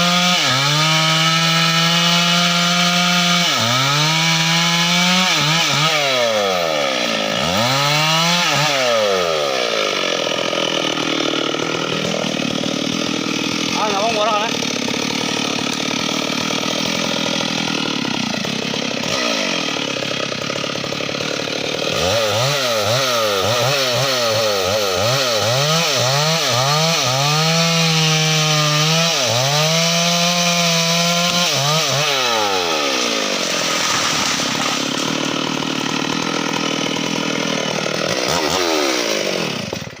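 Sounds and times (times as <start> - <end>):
chainsaw engine revving: 0.0 - 40.0.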